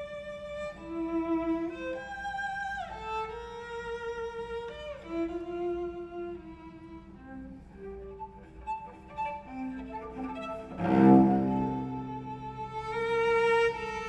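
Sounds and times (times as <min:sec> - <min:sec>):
bowed cello: 0:00.0 - 0:14.0.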